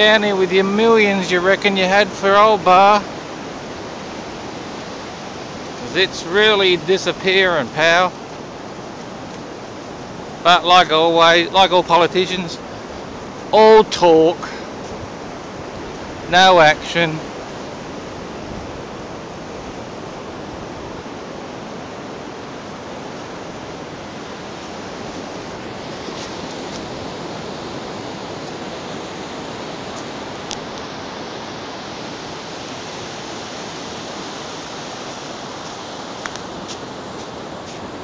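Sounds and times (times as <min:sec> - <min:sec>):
ocean surf breaking on sand: 0:00.0 - 0:38.0.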